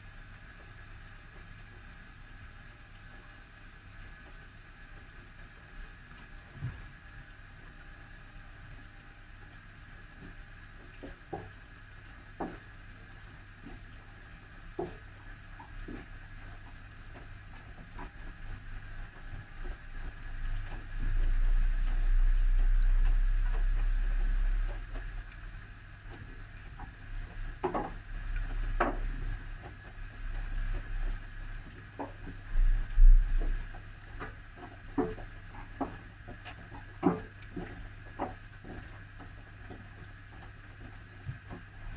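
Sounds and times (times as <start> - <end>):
washing machine motor rumble: 0.0 - 41.9
water sloshing in washing machine: 0.0 - 41.9.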